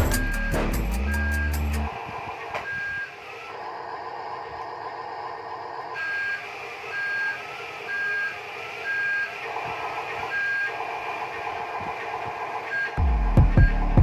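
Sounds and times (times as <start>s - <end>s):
toy truck reversing beeper: 0.0s - 13.0s
whine of electric motors: 0.1s - 14.0s.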